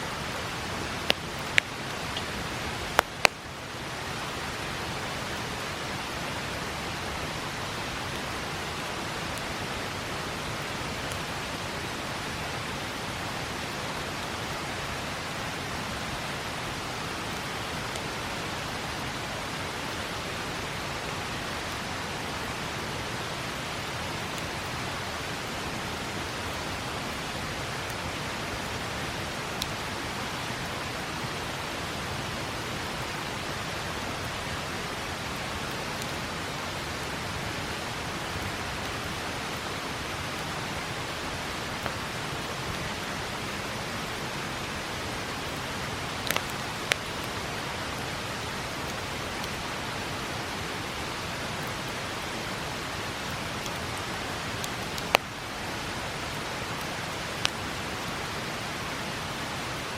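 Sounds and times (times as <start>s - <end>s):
river flowing: 0.0s - 59.9s
campfire crackles: 0.1s - 59.9s.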